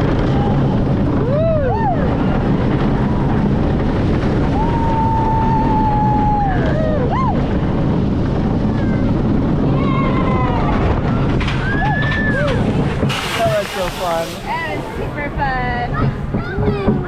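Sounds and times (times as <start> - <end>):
low rumble: 0.0 - 17.0
wind noise on microphone: 0.0 - 17.0.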